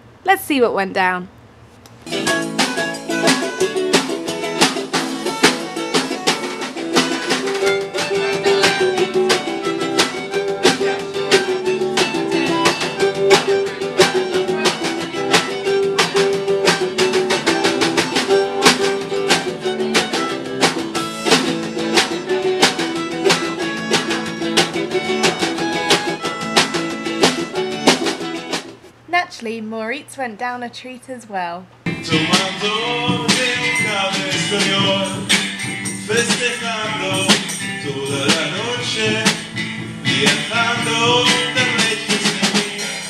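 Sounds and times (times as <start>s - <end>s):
drum kit: 2.0s - 28.9s, 31.9s - 43.0s
ukuleles and guitar strummed: 2.1s - 28.8s, 31.9s - 43.0s.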